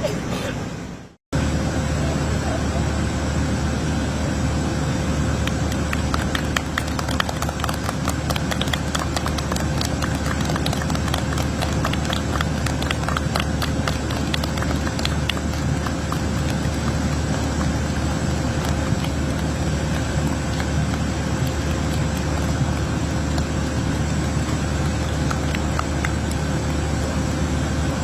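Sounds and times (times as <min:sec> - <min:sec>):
low hum with faint whine: 0:00.0 - 0:28.0.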